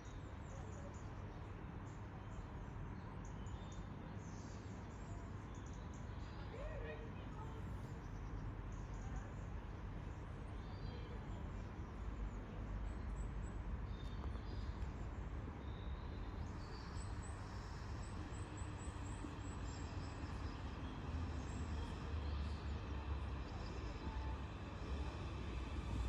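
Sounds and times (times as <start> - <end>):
railway station low rumble: 0.0 - 26.0
small birds chirping: 0.0 - 26.0.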